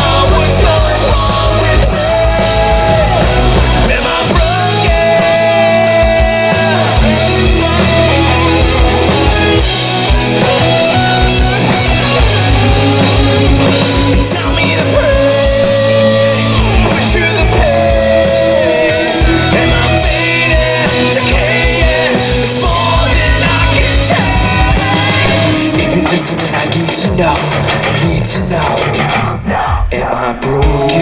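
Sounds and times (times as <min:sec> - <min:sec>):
bending melody notes: 0:00.0 - 0:26.3
live rock band playing: 0:00.0 - 0:31.0
steady drum beat: 0:00.0 - 0:31.0.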